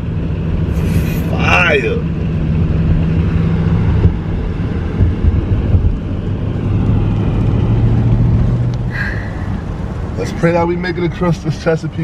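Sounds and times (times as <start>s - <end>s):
car engine hum: 0.0s - 12.0s
road rumble inside car: 0.0s - 12.0s.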